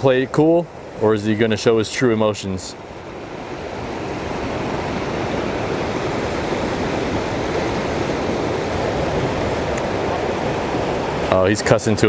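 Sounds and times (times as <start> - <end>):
waves breaking over rocks: 0.0 - 12.0.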